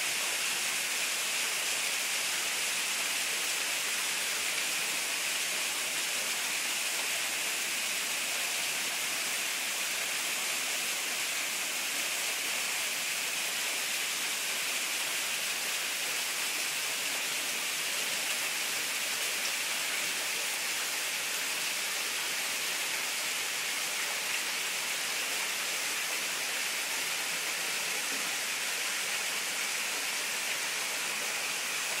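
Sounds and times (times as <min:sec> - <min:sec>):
small waterfall splashing: 0:00.0 - 0:32.0.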